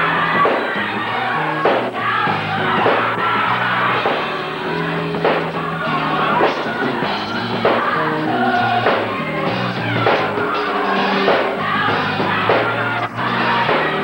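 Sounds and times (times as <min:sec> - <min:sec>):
band with bass and drums: 0:00.0 - 0:14.0
group singing gospel music: 0:00.0 - 0:14.0.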